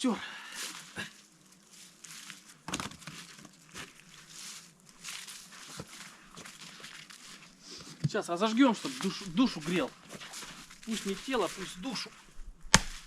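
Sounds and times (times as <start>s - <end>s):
rustling and crackling: 0.6s - 13.0s.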